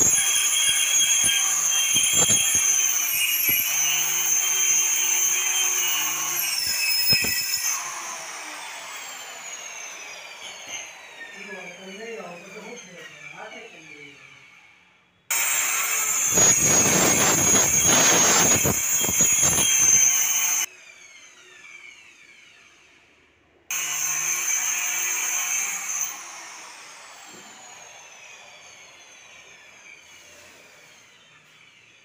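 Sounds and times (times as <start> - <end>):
power saw whining: 0.0 - 23.1, 23.7 - 32.0.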